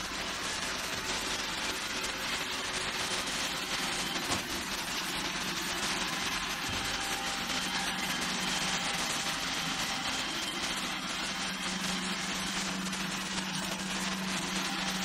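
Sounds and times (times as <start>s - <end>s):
robot vacuum cleaner running: 0.0s - 15.0s.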